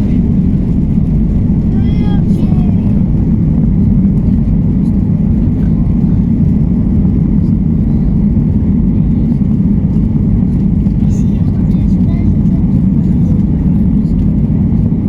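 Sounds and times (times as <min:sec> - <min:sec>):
airflow around aircraft: 0:00.0 - 0:15.0
jet engines rumbling: 0:00.0 - 0:15.0.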